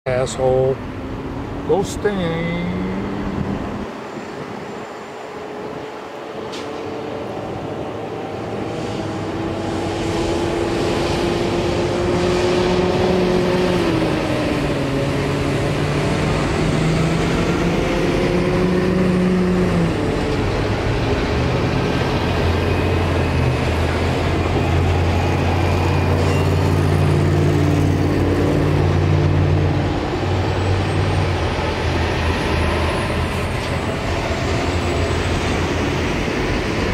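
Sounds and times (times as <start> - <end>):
trucks engines under load: 0.1 - 36.9
tyre noise from traffic: 0.1 - 36.9.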